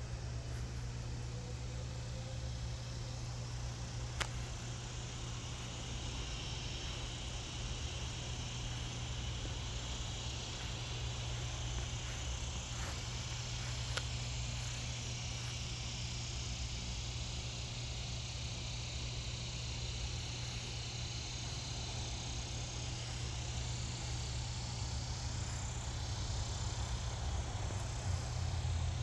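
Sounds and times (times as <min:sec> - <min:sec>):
crickets trilling: 0:00.0 - 0:29.0
low steady hum: 0:00.0 - 0:29.0.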